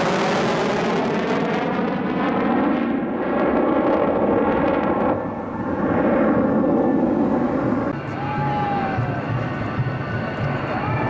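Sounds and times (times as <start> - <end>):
jet fighter flying past: 0.0 - 11.0.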